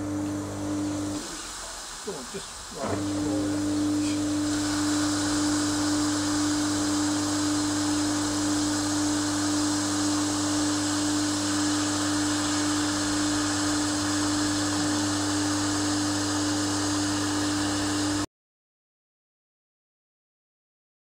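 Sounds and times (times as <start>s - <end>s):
pressure washer running: 0.0s - 18.3s
water jet spraying: 0.0s - 18.3s.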